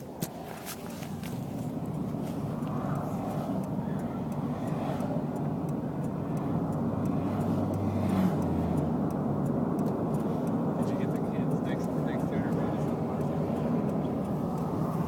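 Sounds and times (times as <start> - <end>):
highway traffic rumble: 0.0 - 15.0
vehicle low drone: 0.0 - 15.0.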